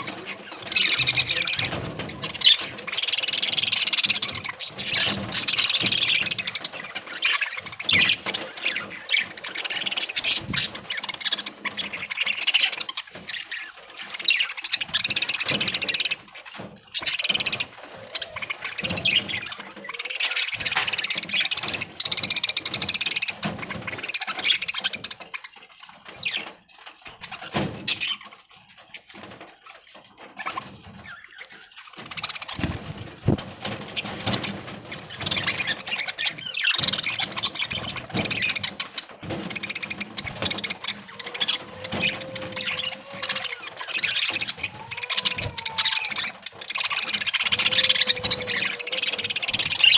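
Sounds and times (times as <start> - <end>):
budgerigars chattering and chirping: 0.0 - 29.4, 30.2 - 49.9.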